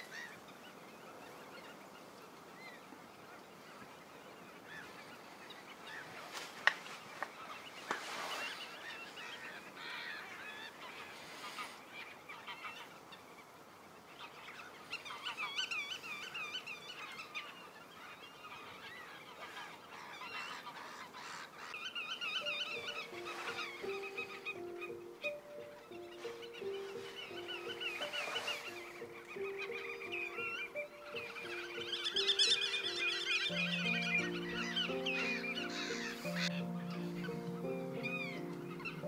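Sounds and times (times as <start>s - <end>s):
birds calling: 0.0s - 39.0s.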